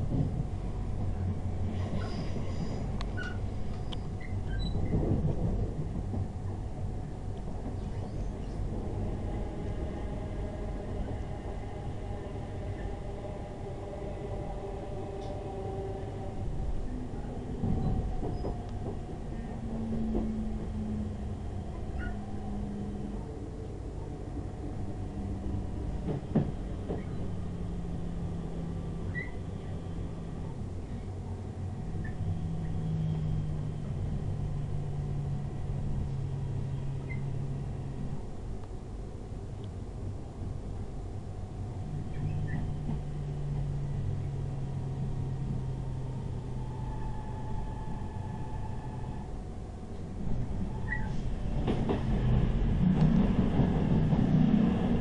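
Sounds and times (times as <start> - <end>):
train wheels rumbling: 0.0 - 55.0
faint whine: 6.8 - 51.5.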